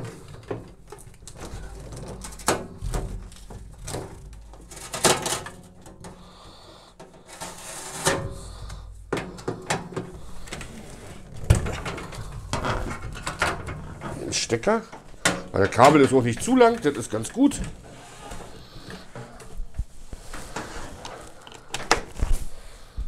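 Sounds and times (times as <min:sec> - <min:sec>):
handling knocks and clicks: 0:00.0 - 0:06.3, 0:08.0 - 0:22.5.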